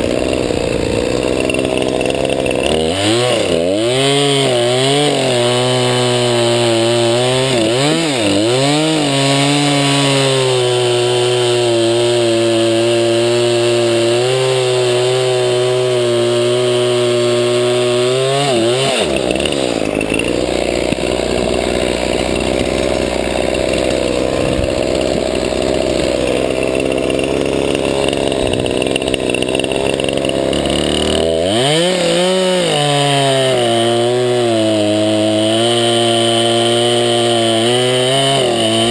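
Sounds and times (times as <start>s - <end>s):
chainsaw cutting through log: 0.0s - 38.9s
chainsaw revving: 0.0s - 38.9s.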